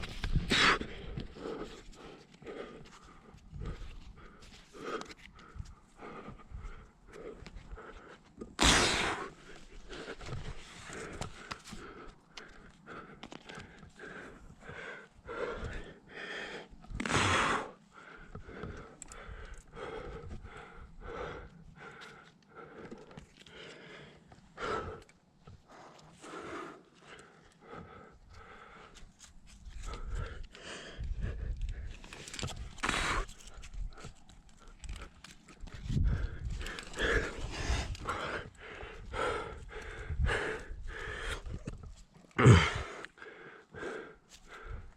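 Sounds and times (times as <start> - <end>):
person panting: 0.3 - 44.9.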